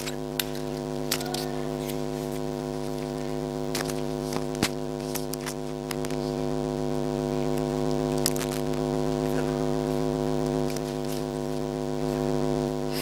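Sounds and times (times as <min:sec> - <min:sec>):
electrical buzz: 0:00.0 - 0:13.0.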